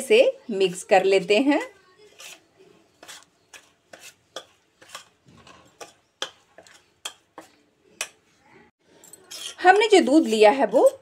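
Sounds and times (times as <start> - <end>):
metal spoon scraping steel bowl: 1.2 - 8.3, 8.9 - 11.0.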